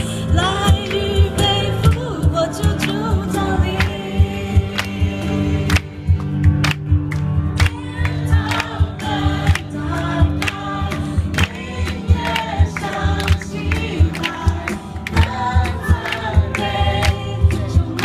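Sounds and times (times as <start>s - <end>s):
congregation singing: 0.4s - 6.5s, 7.6s - 18.0s
clapped and drummed beat: 0.6s - 18.0s.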